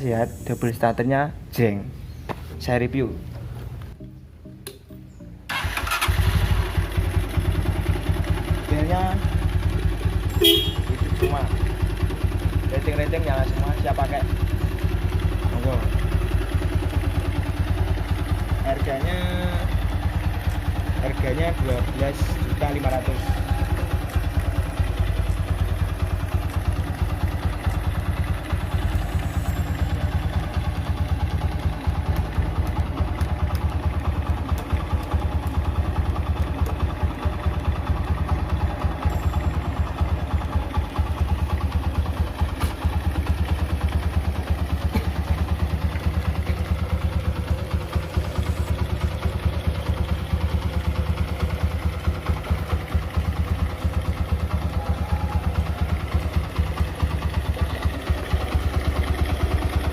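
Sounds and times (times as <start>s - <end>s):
motorcycle engine idling: 4.8s - 59.9s.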